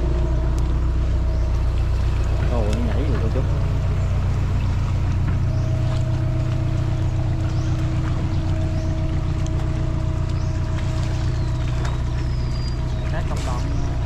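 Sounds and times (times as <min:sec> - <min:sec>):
motor boat engine running: 0:00.0 - 0:14.0.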